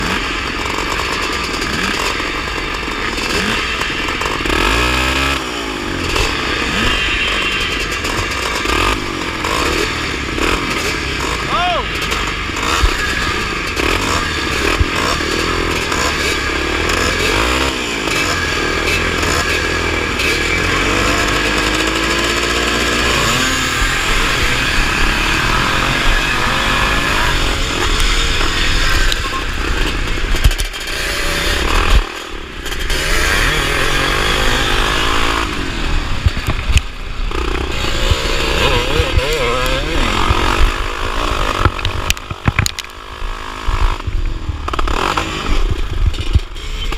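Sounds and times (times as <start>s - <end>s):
motorcycle engines revving: 0.0s - 46.9s.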